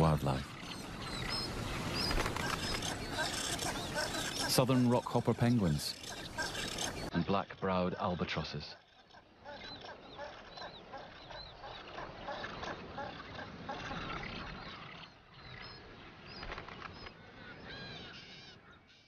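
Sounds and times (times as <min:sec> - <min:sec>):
seabird colony calling: 0:00.0 - 0:19.0.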